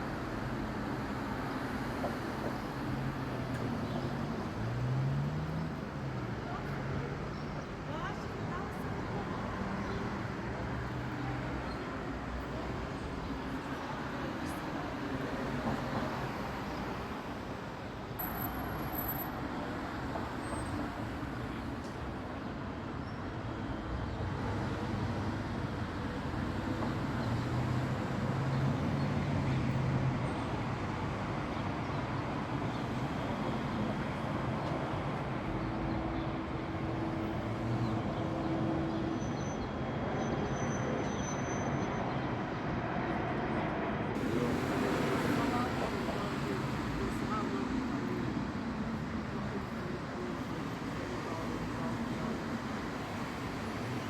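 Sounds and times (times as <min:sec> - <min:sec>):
rumble of engines and machinery: 0:00.0 - 0:54.0.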